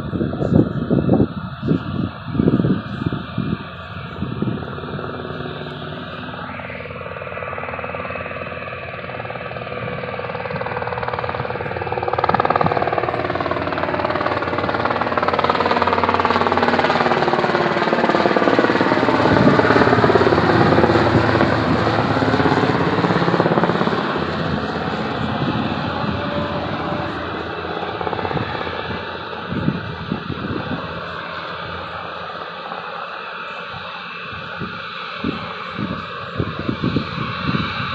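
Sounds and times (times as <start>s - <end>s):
helicopter rotor chop: 0.0s - 37.9s.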